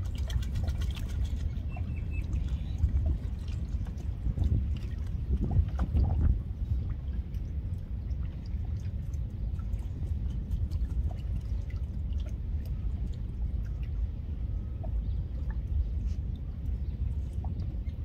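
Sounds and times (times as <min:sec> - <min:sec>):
low rumble: 0:00.0 - 0:18.0
water drips and ticks: 0:00.0 - 0:18.0.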